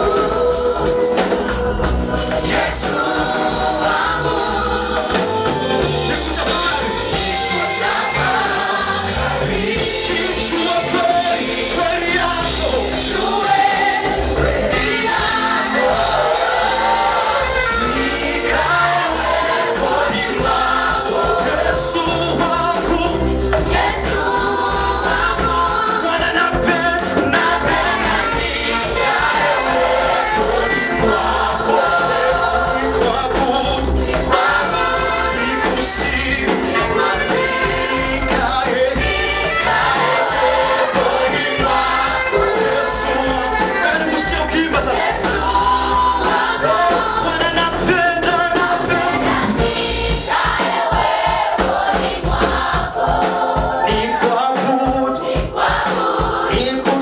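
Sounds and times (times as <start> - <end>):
gospel choir singing: 0.0 - 57.0
instrumental accompaniment: 0.0 - 57.0.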